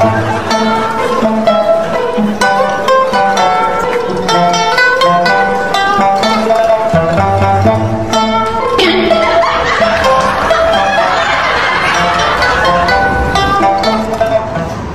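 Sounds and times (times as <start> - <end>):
plucked-string tune with bass: 0.0 - 14.9.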